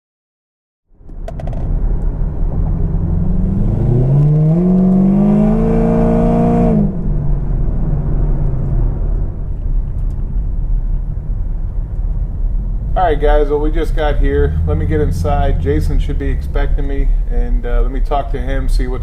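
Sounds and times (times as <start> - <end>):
car engine revving: 1.3 - 19.0.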